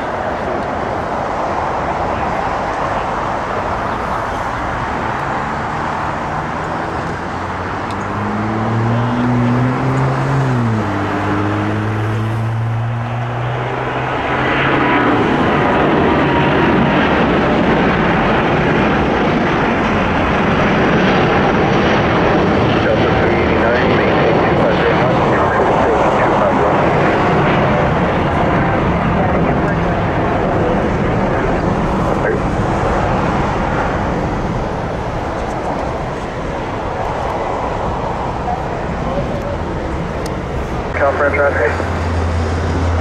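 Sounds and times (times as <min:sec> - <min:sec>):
jet airliner roar: 0:00.0 - 0:43.0.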